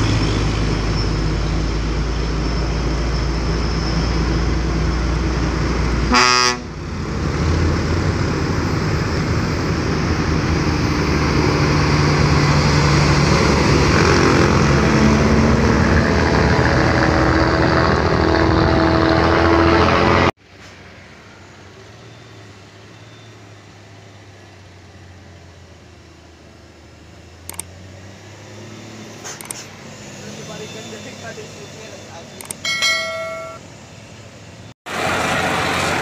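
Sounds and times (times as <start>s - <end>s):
truck diesel engine climbing: 0.0s - 36.0s.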